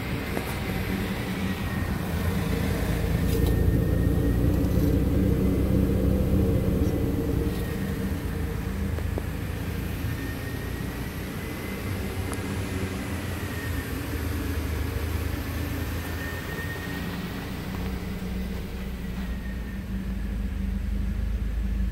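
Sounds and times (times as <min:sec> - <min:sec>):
car engine idling: 0:00.0 - 0:21.9
faint high whine: 0:00.0 - 0:21.9.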